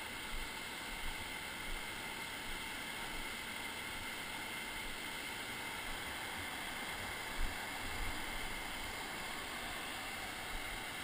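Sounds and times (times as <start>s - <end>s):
rapids rushing over boulders: 0.0s - 11.0s.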